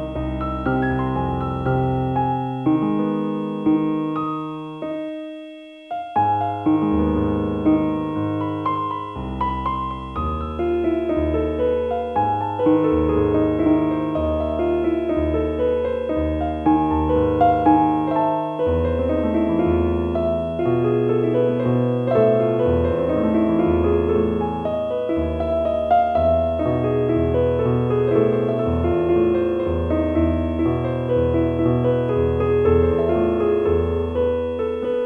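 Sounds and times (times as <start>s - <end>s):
soft piano music: 0.0s - 35.0s.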